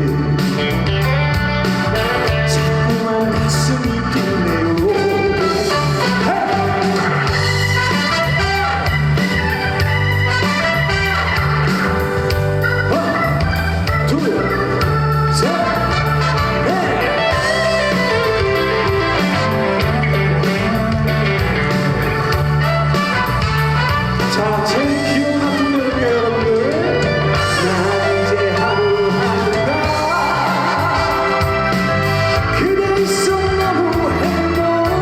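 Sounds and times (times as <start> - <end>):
man singing: 0.0 - 1.0, 1.8 - 8.9, 12.8 - 22.0, 24.1 - 35.0
backing track with electronic organ: 0.0 - 35.0.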